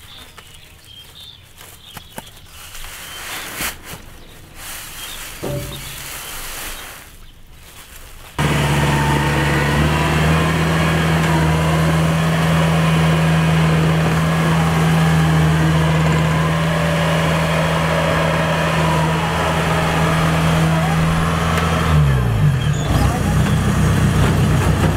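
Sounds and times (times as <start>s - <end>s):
combine harvester engine humming: 3.2s - 6.8s, 8.4s - 24.9s.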